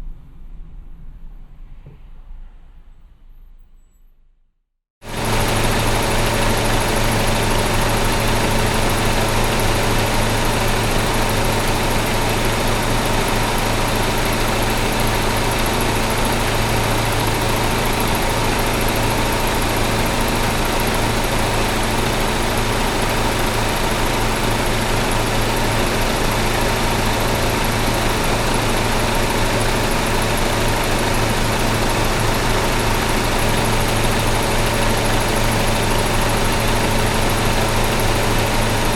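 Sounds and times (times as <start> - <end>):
car engine idling: 5.0 - 38.9.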